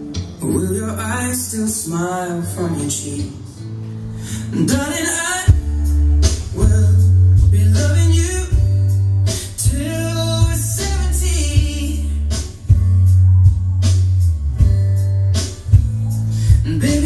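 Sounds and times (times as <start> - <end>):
male pop ballad with guitar: 0.0 - 17.0
heavy sub-bass: 2.4 - 17.0.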